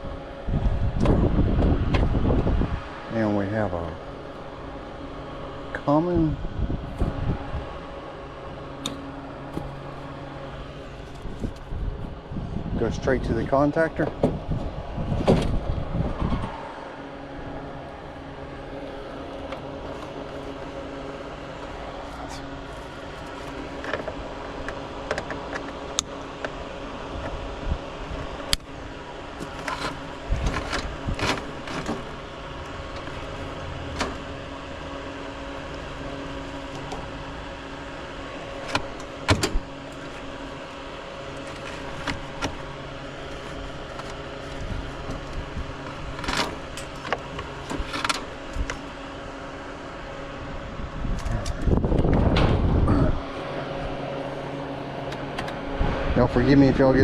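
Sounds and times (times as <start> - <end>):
wind rumbling on microphone: 0.0 - 3.1, 4.0 - 8.8, 9.4 - 20.6, 26.6 - 38.6, 39.3 - 49.0, 50.2 - 54.0, 55.6 - 57.0
steady low hum: 0.0 - 57.0.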